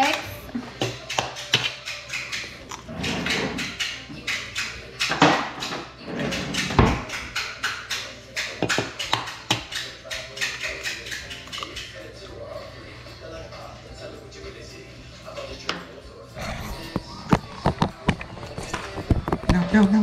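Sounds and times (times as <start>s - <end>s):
background music with tapping beat: 0.0s - 20.0s.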